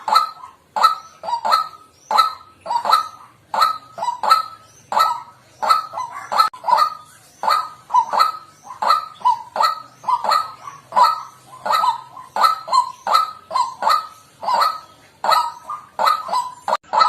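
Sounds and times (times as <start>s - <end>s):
bird calling harsh kwak notes: 0.0s - 17.0s.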